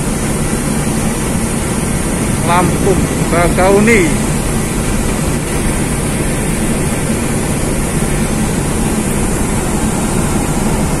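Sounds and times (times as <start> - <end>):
ferry engines droning: 0.0 - 11.0
rushing noise: 0.0 - 11.0.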